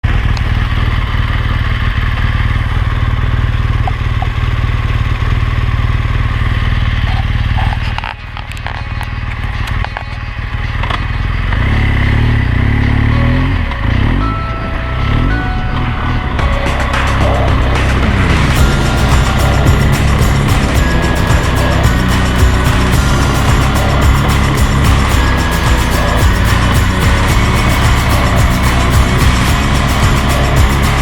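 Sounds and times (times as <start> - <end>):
motorcycle engine rumbling: 0.0 - 31.0.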